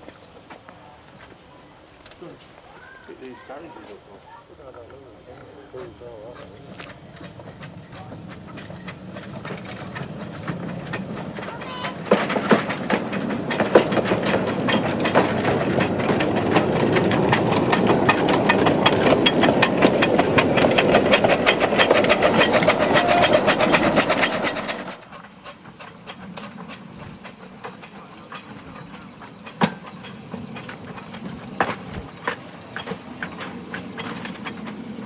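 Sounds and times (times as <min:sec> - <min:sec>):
steam locomotive hissing: 0:00.0 - 0:35.0
wheels clicking on track: 0:00.1 - 0:35.0.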